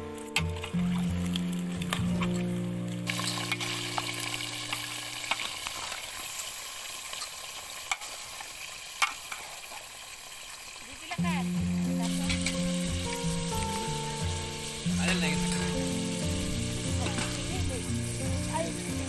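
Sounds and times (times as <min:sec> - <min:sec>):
food sizzling in a pot: 0:00.0 - 0:19.0
sharp crackles and ticks: 0:00.0 - 0:19.0.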